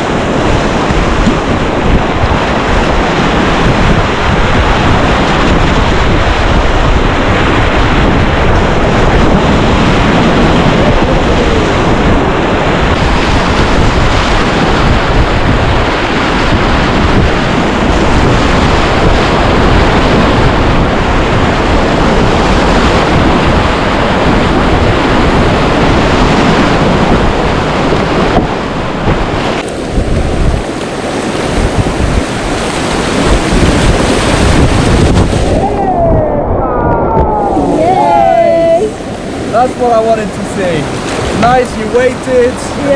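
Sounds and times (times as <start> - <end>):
whitewater rapids rushing: 0.0 - 42.9
wind buffeting microphone: 0.0 - 42.9.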